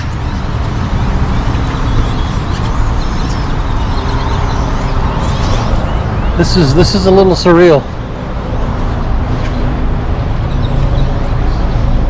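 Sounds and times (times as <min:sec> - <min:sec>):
flock of birds chirping: 0:00.0 - 0:12.0
low traffic rumble: 0:00.0 - 0:12.0.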